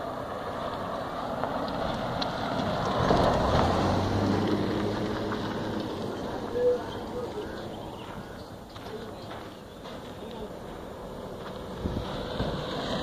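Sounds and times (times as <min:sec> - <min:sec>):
car passing by: 0:00.0 - 0:08.4, 0:10.4 - 0:13.0
low engine hum: 0:00.0 - 0:13.0.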